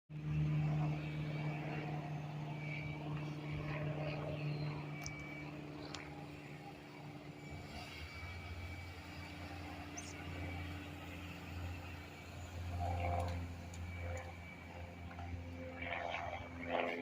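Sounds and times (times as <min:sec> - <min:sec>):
airplane engine drone: 0:00.1 - 0:17.0.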